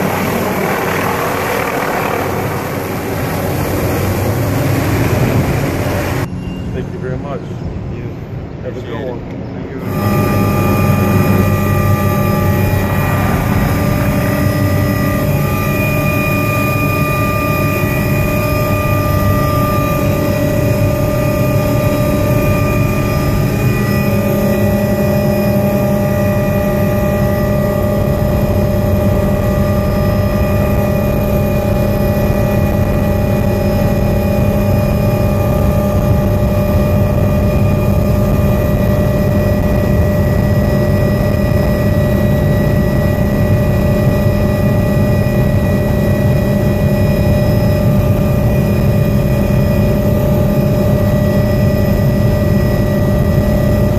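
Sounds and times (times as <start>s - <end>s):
helicopter engine and rotor: 0.0s - 53.9s
high whining tones: 0.0s - 53.9s.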